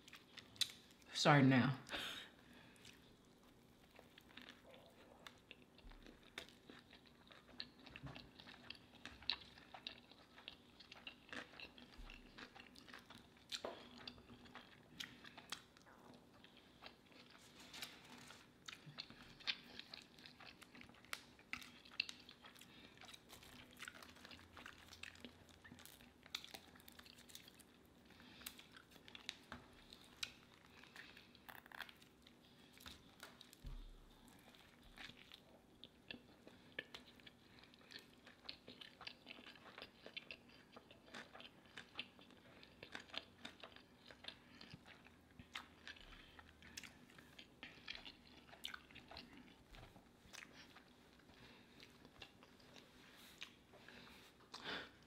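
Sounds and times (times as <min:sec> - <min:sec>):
chewing and biting food: 0:02.7 - 0:55.0.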